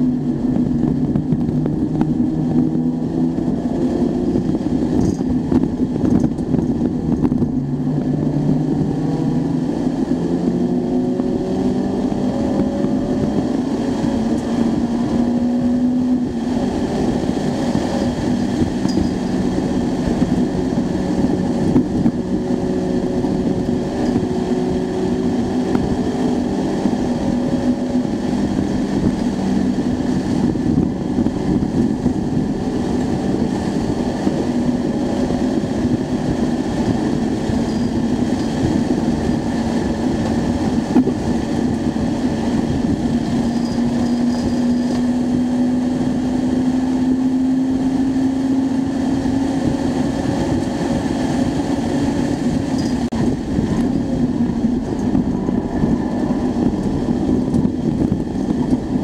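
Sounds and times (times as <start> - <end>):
car engine at high revs: 0.0 - 59.0
road noise: 0.0 - 59.0.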